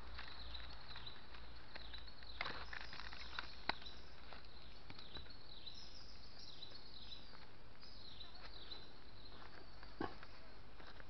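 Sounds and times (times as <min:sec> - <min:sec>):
faint high chirping calls: 0:00.2 - 0:11.0.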